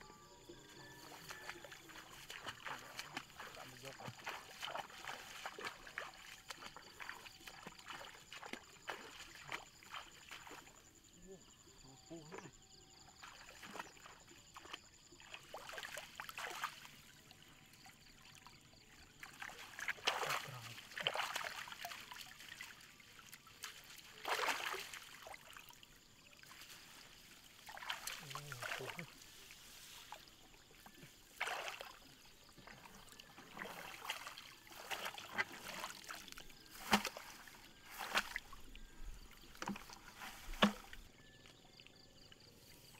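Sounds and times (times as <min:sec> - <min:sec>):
footsteps splashing through wet plants: 0:00.8 - 0:10.8, 0:13.2 - 0:17.1, 0:19.1 - 0:25.8, 0:26.4 - 0:41.1.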